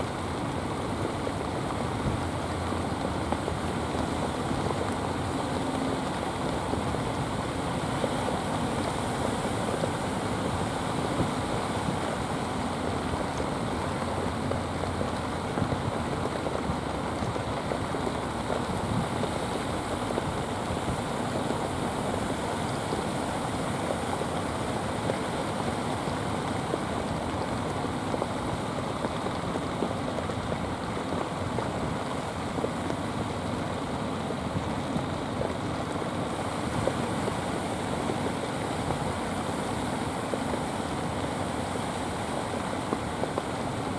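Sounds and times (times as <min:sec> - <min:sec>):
rain: 0:00.0 - 0:43.9.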